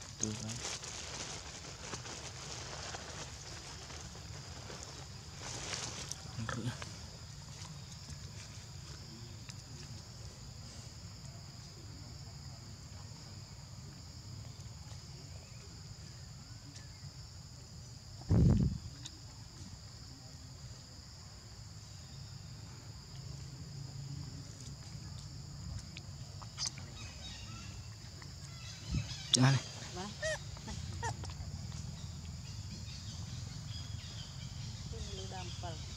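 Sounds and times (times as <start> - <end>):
insects chirring: 0.0 - 35.9.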